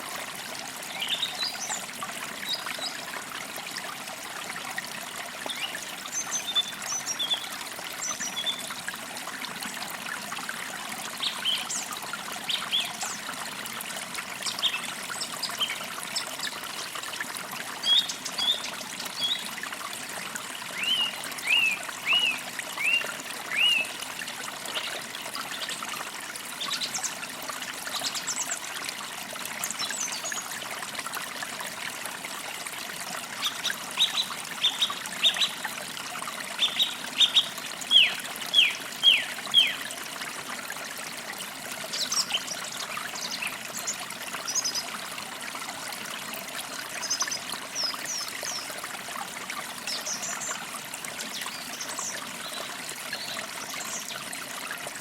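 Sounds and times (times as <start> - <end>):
creek trickling: 0.0 - 55.0.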